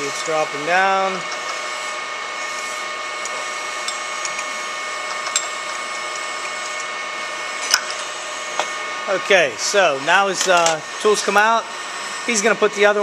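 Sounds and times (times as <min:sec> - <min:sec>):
machine shop hum: 0:00.0 - 0:13.0.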